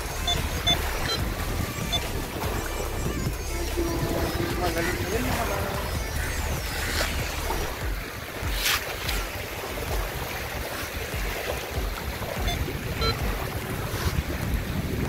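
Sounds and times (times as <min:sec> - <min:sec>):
small waves washing: 0:00.0 - 0:15.0
wind rumbling on microphone: 0:00.0 - 0:15.0.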